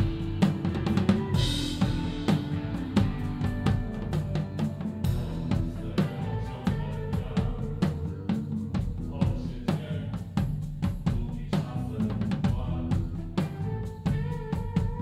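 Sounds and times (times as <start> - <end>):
drum kit groove: 0.0 - 15.0
sustained bass notes: 0.0 - 15.0.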